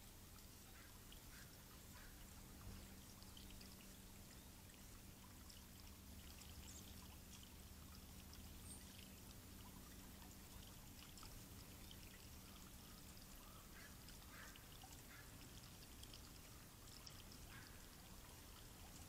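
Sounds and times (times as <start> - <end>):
fountain water trickling: 0.0 - 19.0.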